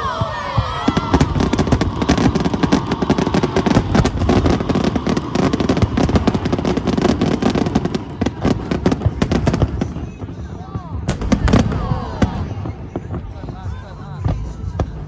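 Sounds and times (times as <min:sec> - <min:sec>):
fireworks booms rumbling: 0:00.0 - 0:15.0
fireworks crackling: 0:00.0 - 0:15.0.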